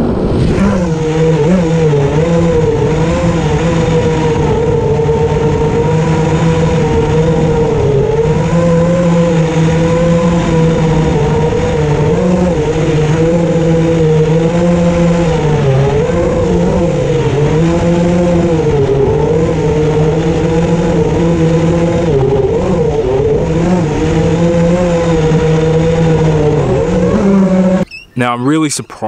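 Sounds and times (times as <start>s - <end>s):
whiny motor hum: 0.0s - 28.2s.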